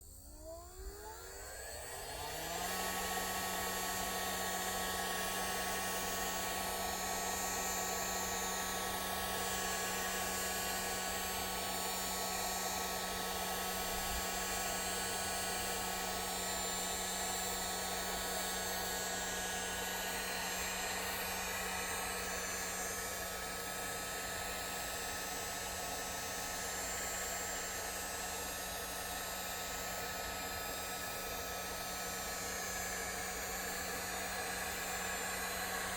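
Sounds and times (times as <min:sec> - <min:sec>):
hot-air blower running: 0:00.2 - 0:35.9.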